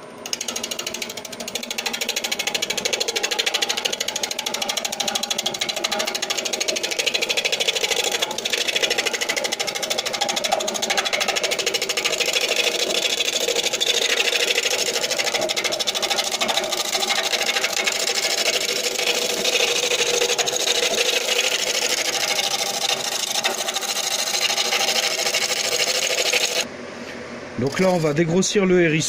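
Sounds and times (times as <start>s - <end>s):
wood lathe gouge cutting: 0.2s - 26.7s, 27.6s - 28.4s.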